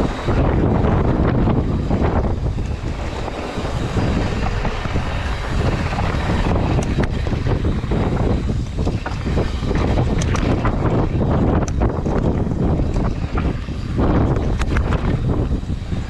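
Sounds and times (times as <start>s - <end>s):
bike tyre and trail noise: 0.0s - 16.0s
wind buffeting microphone: 0.0s - 16.0s.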